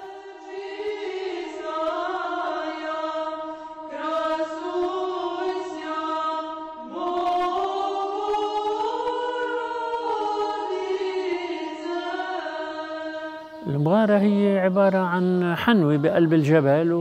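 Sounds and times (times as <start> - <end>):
choral chant: 0.0 - 17.0.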